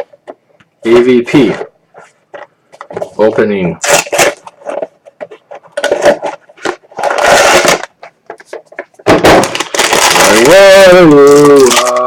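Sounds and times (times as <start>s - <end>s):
packaging rustling and crinkling: 2.0s - 12.0s.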